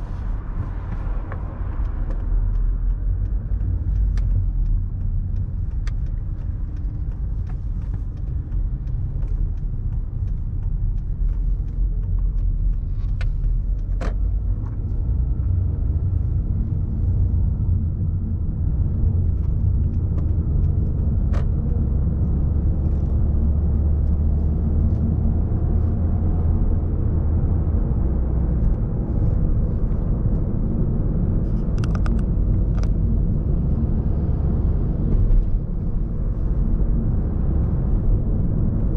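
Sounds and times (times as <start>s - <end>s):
rumble of passing cars: 0.0s - 38.9s.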